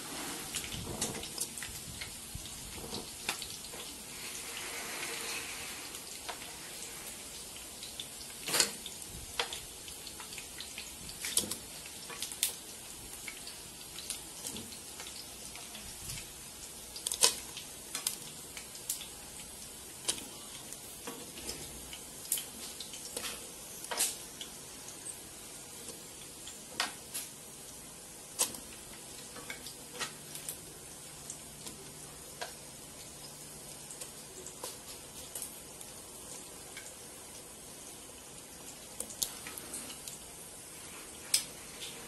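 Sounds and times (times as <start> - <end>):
sauce hissing in a pot: 0.0 - 42.0.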